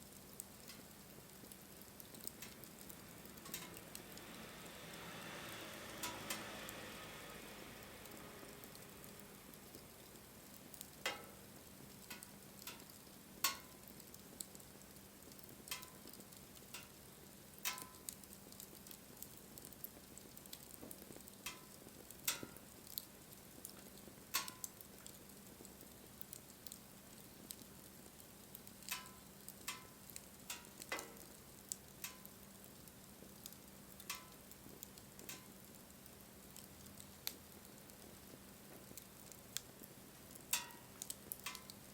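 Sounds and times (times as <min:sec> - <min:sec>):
faint steady hiss: 0:00.0 - 0:41.9
wood fire crackling: 0:00.0 - 0:41.9
sharp pops of fire: 0:00.2 - 0:03.9, 0:09.1 - 0:41.9.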